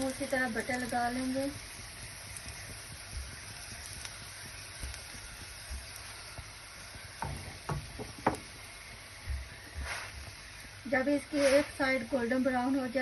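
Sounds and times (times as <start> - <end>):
bread sizzling in a pan: 0.0 - 13.0.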